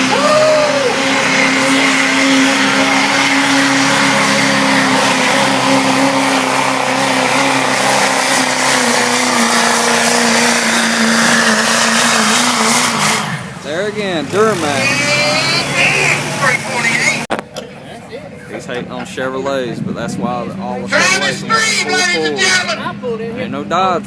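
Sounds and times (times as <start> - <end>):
diesel engine at high revs: 0.0 - 17.7, 18.6 - 24.0.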